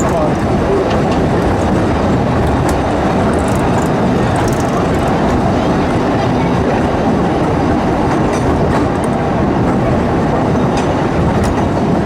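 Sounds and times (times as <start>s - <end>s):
steam train rumbling: 0.0s - 12.0s
wheels clicking on rails: 0.0s - 12.0s.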